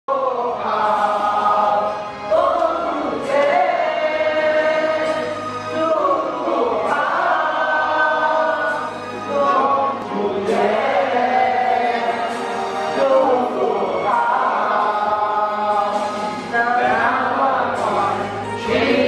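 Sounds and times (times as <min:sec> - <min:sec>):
choir singing held notes: 0:00.1 - 0:19.0.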